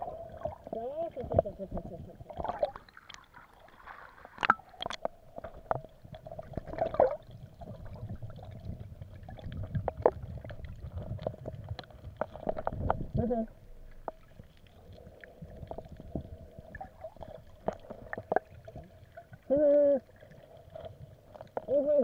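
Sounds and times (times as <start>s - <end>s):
low underwater rumble: 0.0s - 21.8s
water gurgling and sloshing: 0.0s - 22.0s.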